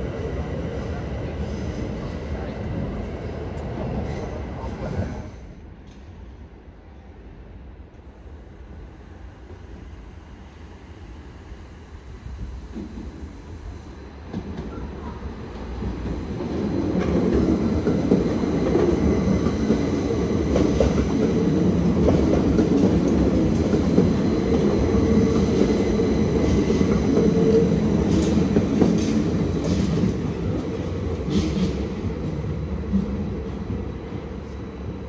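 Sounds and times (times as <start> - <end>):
electric train on rails: 0.0 - 35.0.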